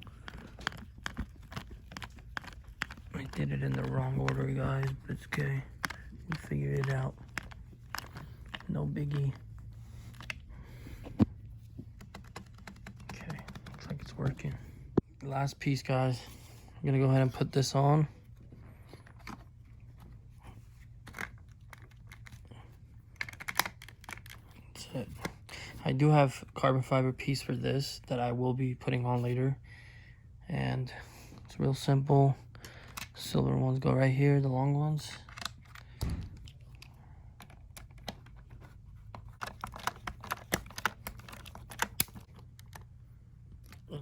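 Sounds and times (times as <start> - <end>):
faint handling noises: 0.0 - 29.6, 30.9 - 44.0.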